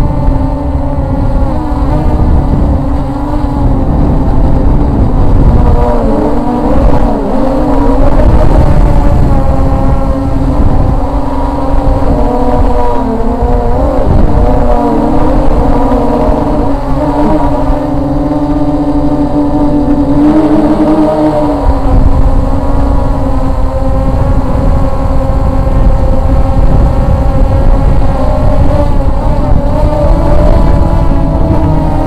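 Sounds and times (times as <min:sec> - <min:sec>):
quadcopter propellers whirring: 0:00.0 - 0:32.0
wind rumble on microphone: 0:00.0 - 0:32.0.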